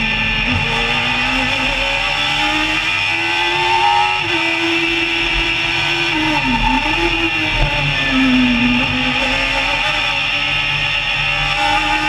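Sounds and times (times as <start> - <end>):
race car engine under load: 0.0 - 12.0.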